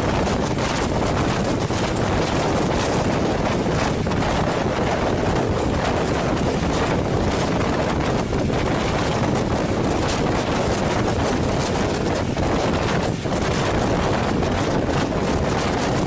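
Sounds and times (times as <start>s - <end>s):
train rumbling on track: 0.0s - 16.0s
wind buffeting microphone: 0.0s - 16.0s.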